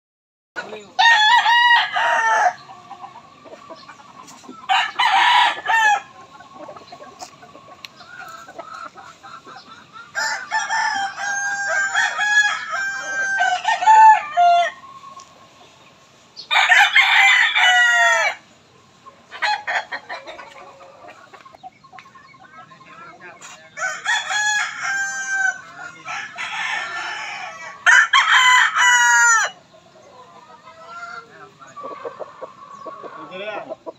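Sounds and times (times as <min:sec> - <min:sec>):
roosters crowing: 0:00.6 - 0:33.9.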